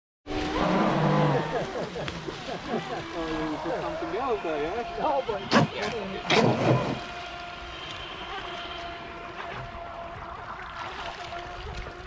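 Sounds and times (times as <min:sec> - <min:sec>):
model boat motor whine: 0:00.3 - 0:12.0.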